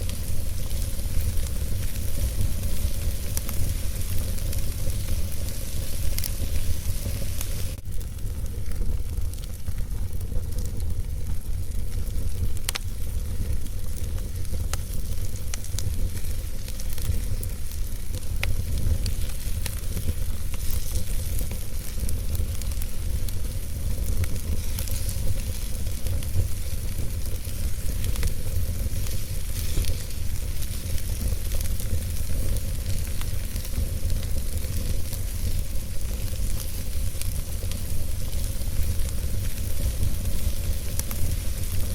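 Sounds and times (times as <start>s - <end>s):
fire crackles and pops: 0.0s - 41.9s
fire rumble and hiss: 0.0s - 41.9s.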